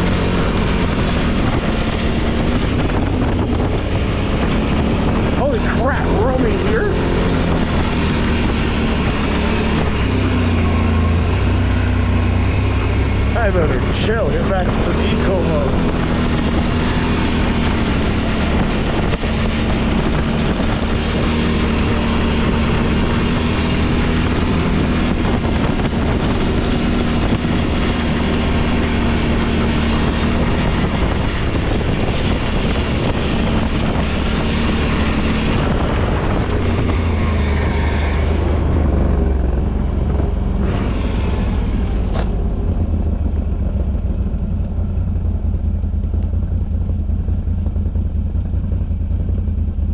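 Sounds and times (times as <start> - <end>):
dense rushing ride noise: 0.0 - 49.9
vehicle engine running: 0.0 - 49.9.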